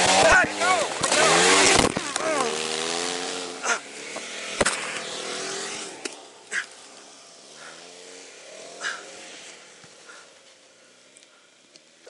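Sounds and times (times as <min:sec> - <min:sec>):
engines revving: 0:00.0 - 0:12.0.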